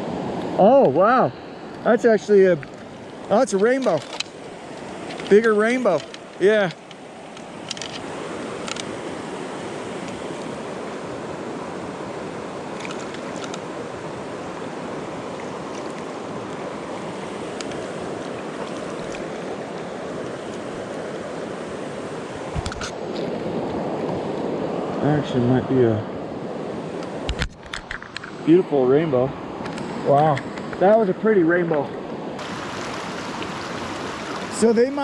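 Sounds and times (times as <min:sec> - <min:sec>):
river water rushing: 0:00.0 - 0:27.3, 0:28.1 - 0:35.0.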